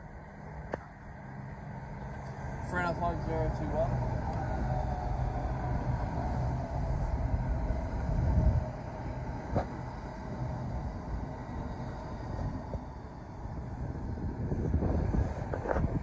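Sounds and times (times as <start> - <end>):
train rumbling into platform: 0.0 - 16.0.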